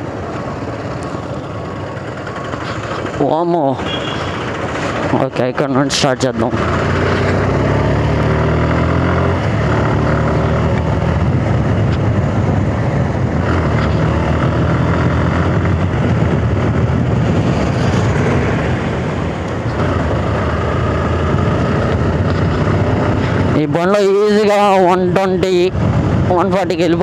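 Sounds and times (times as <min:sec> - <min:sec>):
motorcycle engine revving: 0:00.0 - 0:25.0
road and wind noise: 0:00.0 - 0:27.0.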